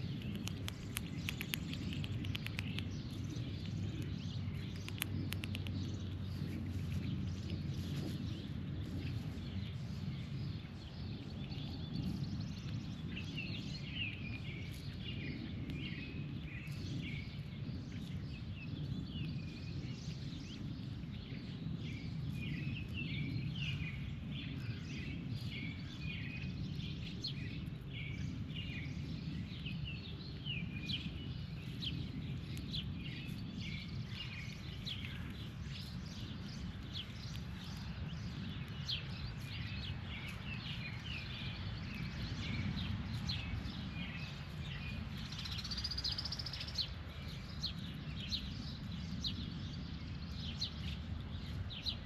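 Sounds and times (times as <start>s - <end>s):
birds chirping: 0.0s - 19.4s, 20.5s - 52.0s
steady low rumble: 0.0s - 52.0s.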